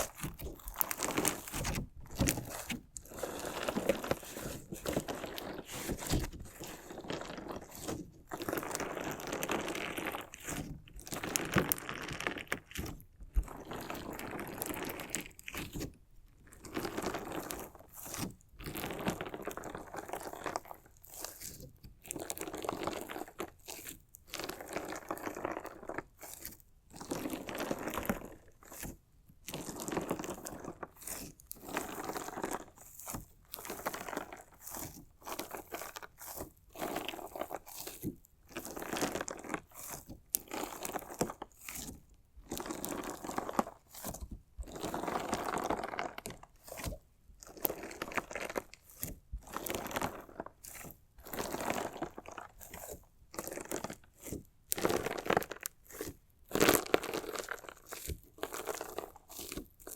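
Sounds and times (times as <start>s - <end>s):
crunchy slime squishing: 0.0s - 59.9s.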